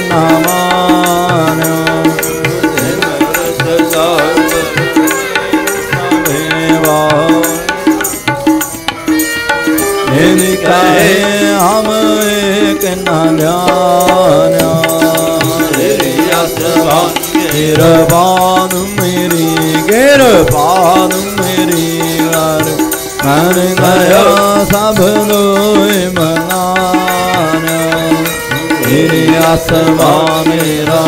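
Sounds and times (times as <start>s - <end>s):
voices singing a hymn: 0.0s - 8.1s, 9.8s - 31.0s
harmonium drone: 0.0s - 31.0s.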